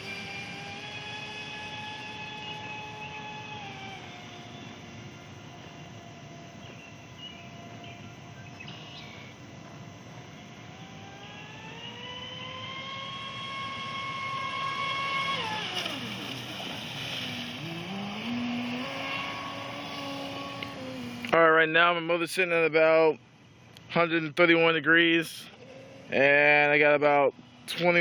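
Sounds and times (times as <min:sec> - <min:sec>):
electric boat motor whining: 0:00.0 - 0:22.0, 0:24.6 - 0:28.0.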